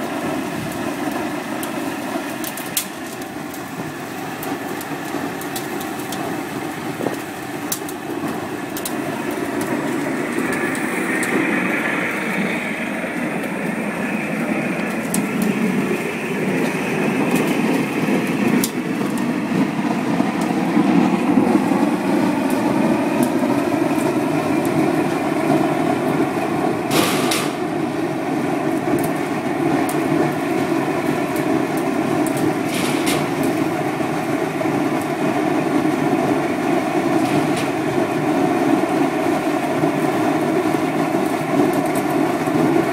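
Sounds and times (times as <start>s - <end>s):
burner flame rushing: 0.0s - 42.9s.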